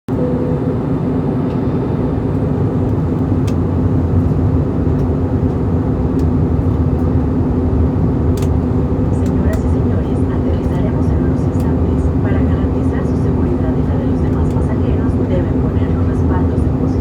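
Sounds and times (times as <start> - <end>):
airflow rushing in aircraft cabin: 0.1 - 17.0
jet engines droning: 0.1 - 17.0.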